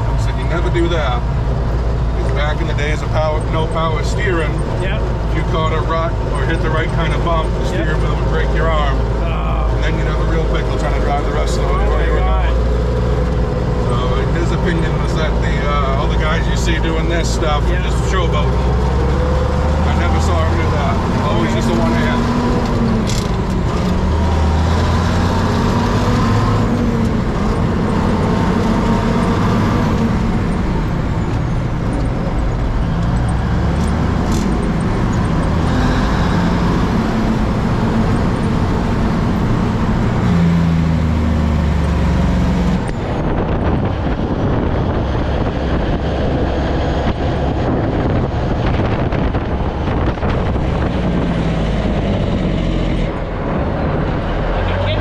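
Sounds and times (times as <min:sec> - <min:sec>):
road and wind noise: 0:00.0 - 0:55.0
truck diesel engine from cab: 0:00.0 - 0:55.0.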